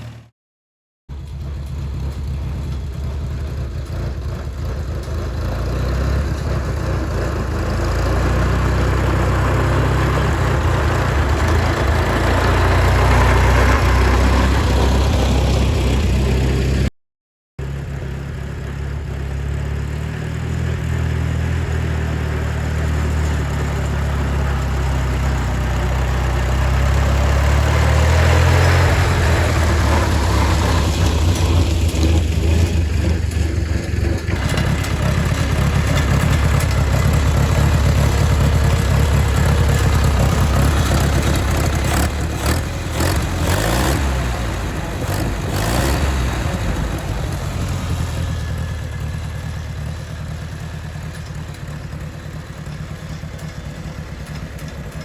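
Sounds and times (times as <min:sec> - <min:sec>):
tractor engine running: 0:01.1 - 0:16.9, 0:17.6 - 0:55.0.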